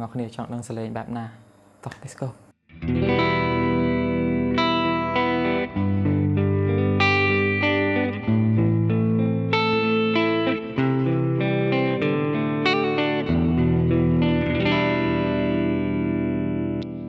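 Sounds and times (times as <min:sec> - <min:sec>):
electric guitar chords ringing: 0:02.7 - 0:17.0.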